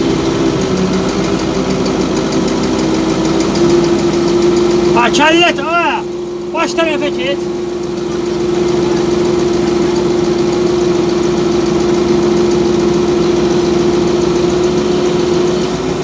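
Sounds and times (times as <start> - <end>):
crane engine droning: 0.0 - 16.0.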